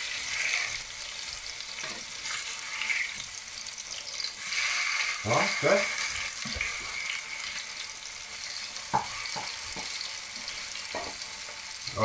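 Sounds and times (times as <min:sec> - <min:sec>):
potato frying in hot oil: 0:00.0 - 0:12.0.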